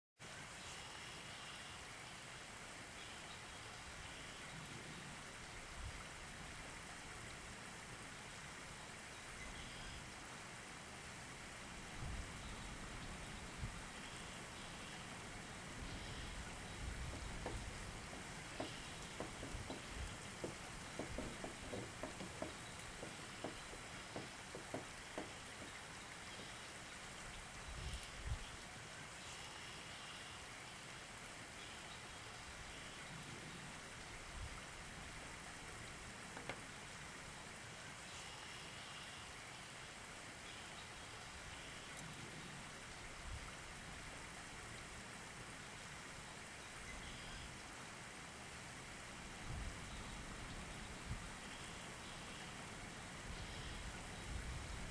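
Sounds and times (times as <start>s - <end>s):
background hiss: 0.2s - 54.9s.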